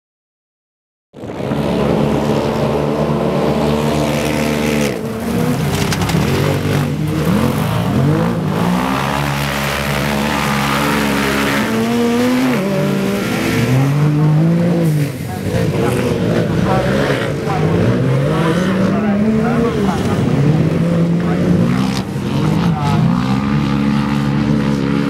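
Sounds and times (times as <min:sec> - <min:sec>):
off-road buggy engines revving: 0:01.2 - 0:25.0.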